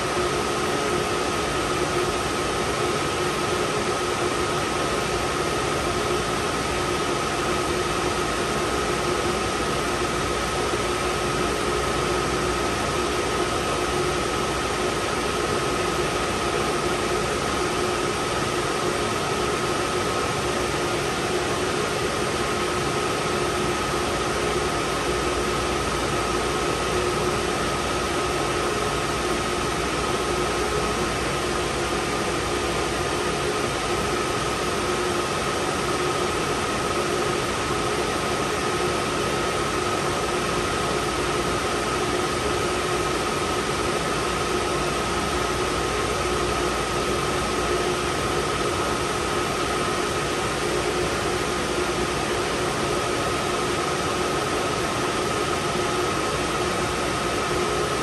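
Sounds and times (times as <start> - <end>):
machine hiss and hum: 0.0 - 58.0.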